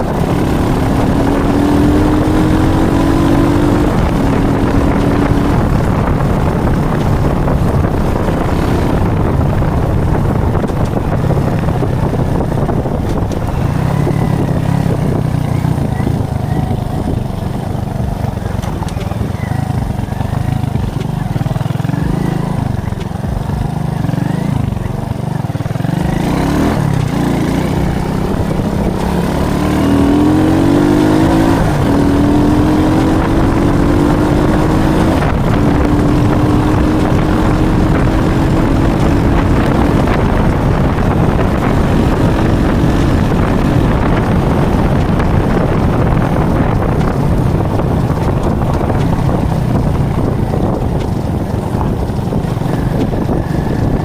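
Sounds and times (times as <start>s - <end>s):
moped engine running: 0.0s - 54.0s
wind and road noise: 0.0s - 54.0s.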